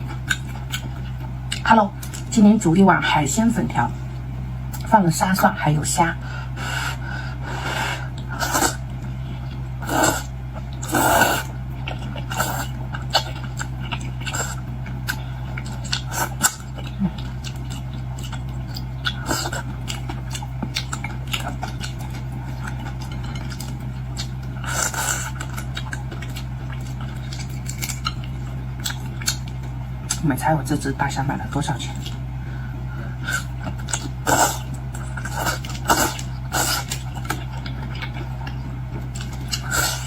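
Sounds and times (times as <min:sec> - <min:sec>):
chewing and slurping: 0:00.0 - 0:02.3, 0:06.5 - 0:30.2, 0:31.9 - 0:40.0
steady low hum: 0:00.0 - 0:40.0.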